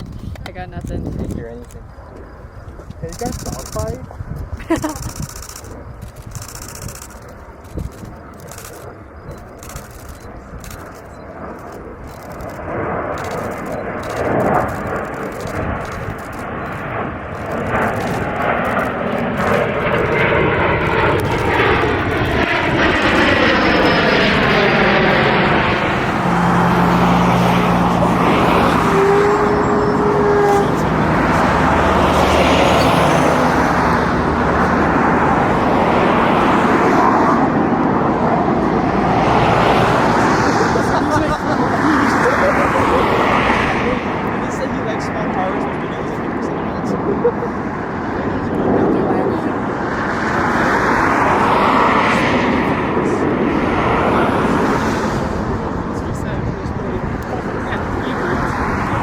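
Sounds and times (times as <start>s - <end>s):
airplane flying past: 0.0s - 59.0s.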